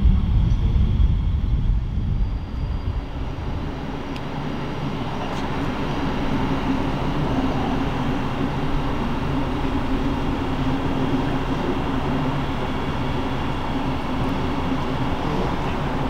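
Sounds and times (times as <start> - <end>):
train approaching with low rumble: 0.0 - 16.0.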